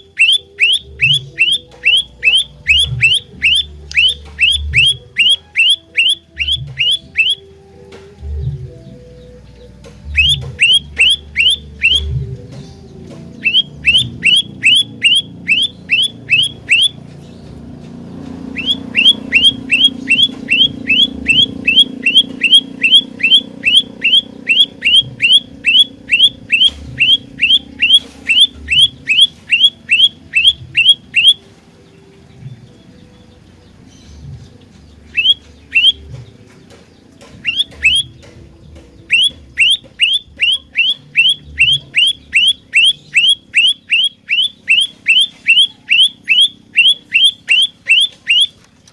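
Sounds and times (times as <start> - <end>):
bird singing sharp descending notes: 0.0 - 48.9.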